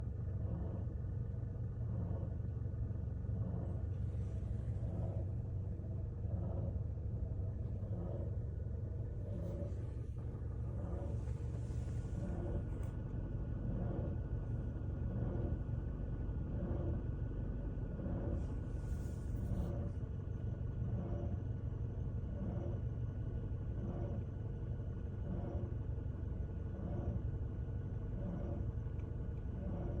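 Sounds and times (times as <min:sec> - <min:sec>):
car engine running: 0:00.0 - 0:30.0
compressor low drone with tones: 0:00.0 - 0:30.0
faint steady whines: 0:00.0 - 0:30.0.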